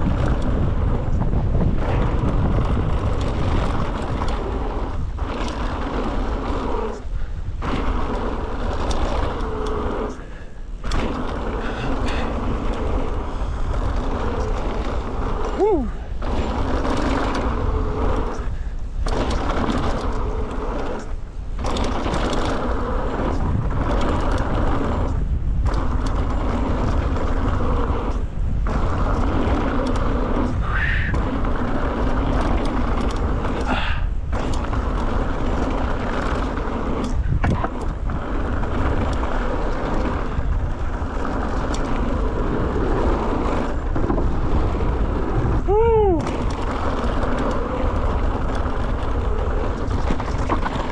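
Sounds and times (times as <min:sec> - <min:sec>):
bike tyres rumbling on dirt: 0:00.0 - 0:50.9
wind buffeting microphone: 0:00.0 - 0:50.9.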